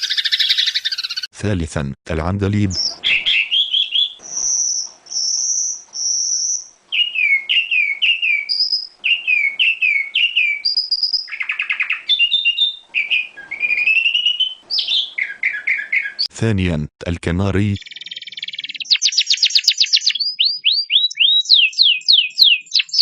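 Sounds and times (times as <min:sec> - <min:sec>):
nightingale singing: 0:00.0 - 0:01.3, 0:02.6 - 0:16.4, 0:17.8 - 0:23.0.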